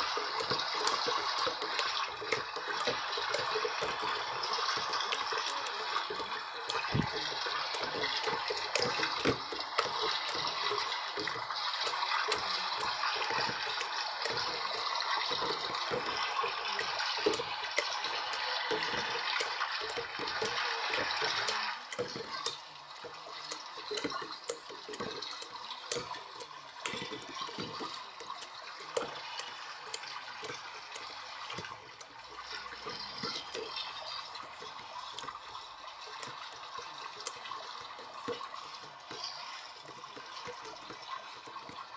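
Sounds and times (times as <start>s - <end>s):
water rushing into washing machine: 0.0s - 41.9s
water sloshing in drum: 0.0s - 41.9s.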